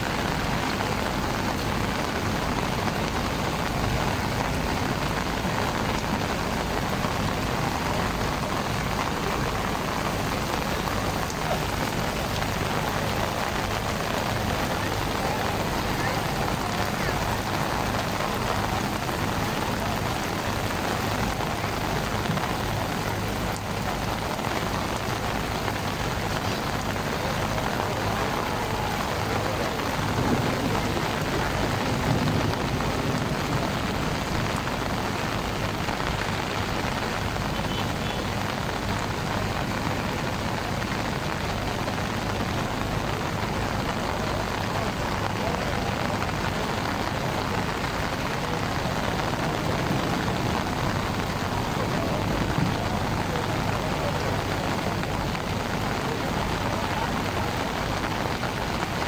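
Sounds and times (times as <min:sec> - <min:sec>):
heavy rain downpour: 0:00.0 - 0:59.0.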